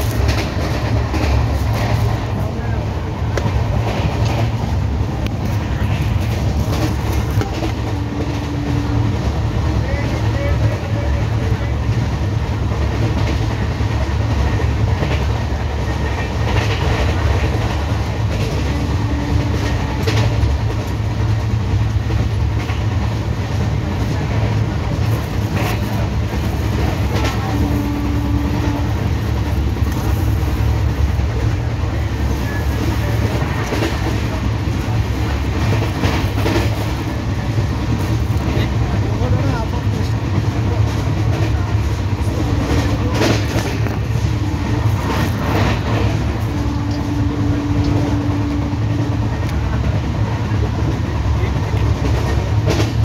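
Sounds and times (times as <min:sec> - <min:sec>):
rail clacks: 0:00.0 - 0:53.0
train wheels rumbling on rail: 0:00.0 - 0:53.0.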